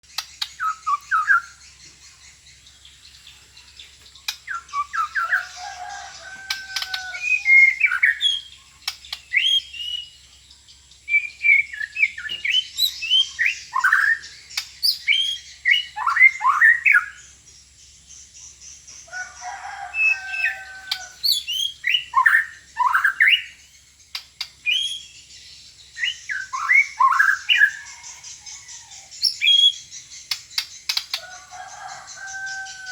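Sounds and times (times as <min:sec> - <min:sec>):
bird singing whistles and chatter: 0:00.0 - 0:01.8, 0:04.2 - 0:10.2, 0:11.1 - 0:17.2, 0:19.2 - 0:25.3, 0:25.9 - 0:32.9.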